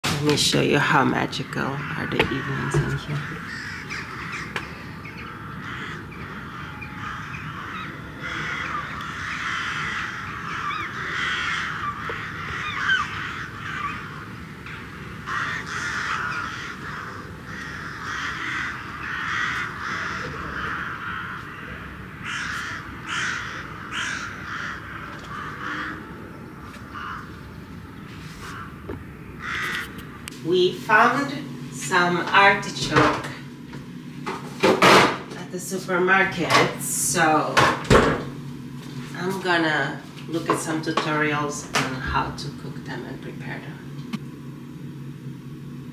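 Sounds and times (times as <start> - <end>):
flock of crows calling: 0.3 - 42.3.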